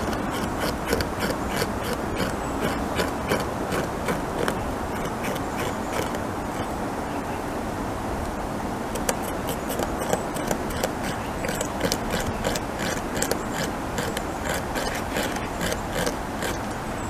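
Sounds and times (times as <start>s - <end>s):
beaver gnawing wood: 0.0s - 6.9s, 8.8s - 17.0s
low background noise: 0.0s - 17.0s.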